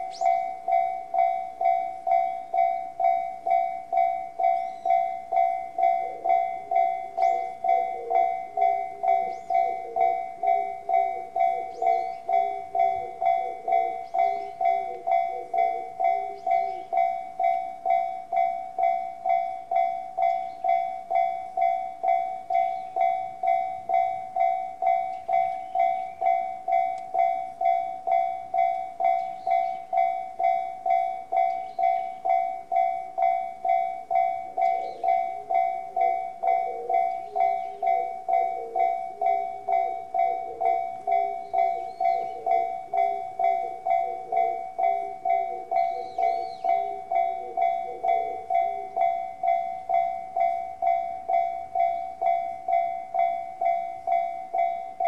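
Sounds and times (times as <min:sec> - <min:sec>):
level-crossing alarm bell dinging: 0:00.0 - 0:55.0.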